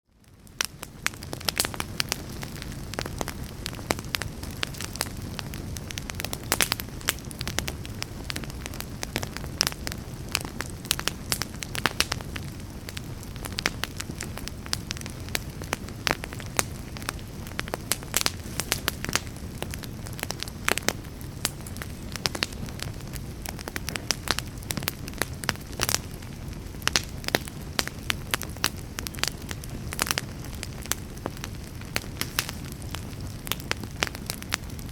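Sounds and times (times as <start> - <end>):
campfire flames rumbling: 0.1 - 34.9
wood crackling and popping: 0.2 - 34.9.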